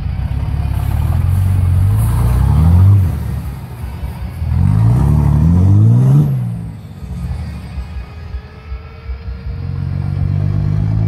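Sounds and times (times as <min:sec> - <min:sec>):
diesel truck engine accelerating: 0:00.0 - 0:11.0.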